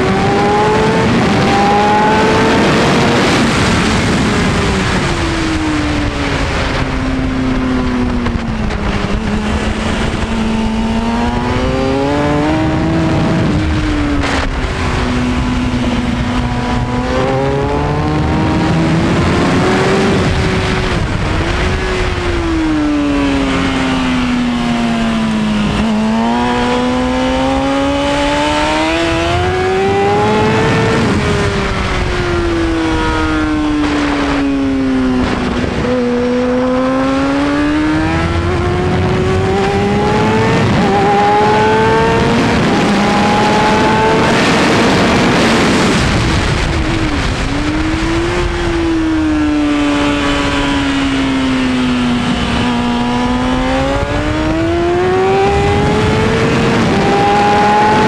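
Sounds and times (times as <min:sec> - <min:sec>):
motorcycle engine revving: 0:00.0 - 0:58.0
wind rush over microphone: 0:00.0 - 0:58.0.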